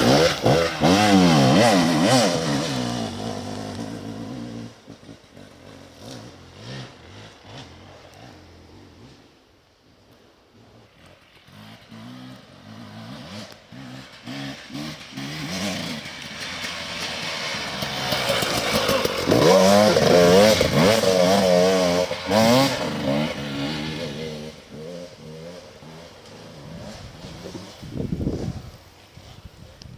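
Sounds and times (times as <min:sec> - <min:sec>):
motorcycle engine passing by: 0:00.0 - 0:09.4, 0:10.6 - 0:29.8.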